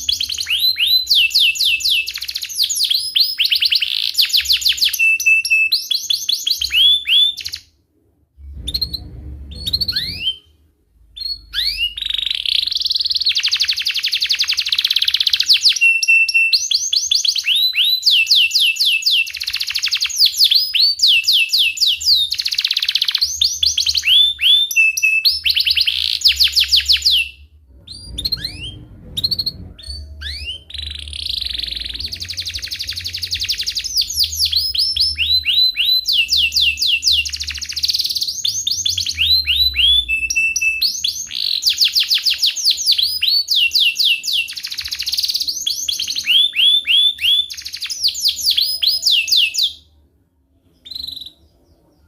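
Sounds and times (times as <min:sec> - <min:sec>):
canary singing trills: 0:00.0 - 0:07.7, 0:08.5 - 0:10.6, 0:11.2 - 0:50.0, 0:50.6 - 0:52.0.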